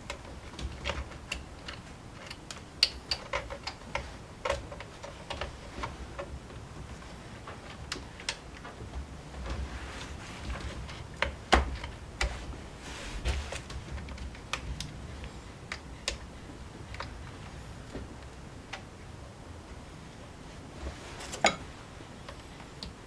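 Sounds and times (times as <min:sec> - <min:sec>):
low steady hum: 0:00.0 - 0:23.0
soft rustling: 0:03.3 - 0:23.0.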